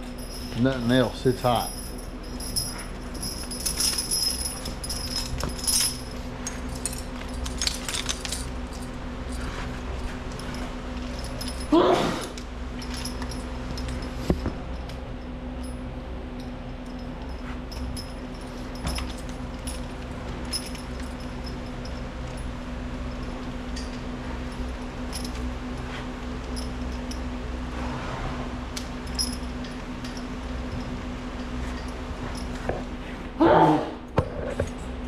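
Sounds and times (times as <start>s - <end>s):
harness hardware clinking: 0.0s - 27.7s, 28.7s - 33.4s
steady hum: 0.0s - 35.0s.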